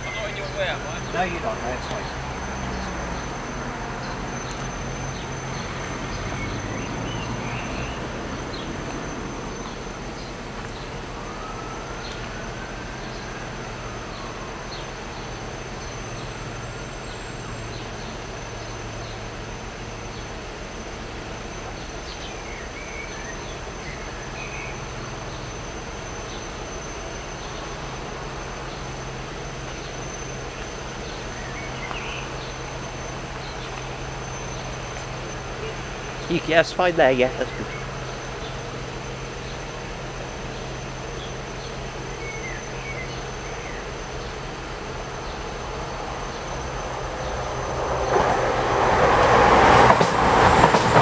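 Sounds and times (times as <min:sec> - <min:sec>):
high-pitched whine: 0:00.0 - 0:51.0
low engine rumble of traffic: 0:00.0 - 0:51.0.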